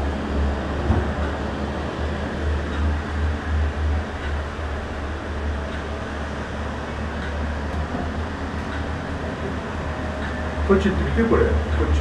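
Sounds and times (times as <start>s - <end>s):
cable car cabin rumble: 0.0s - 12.0s.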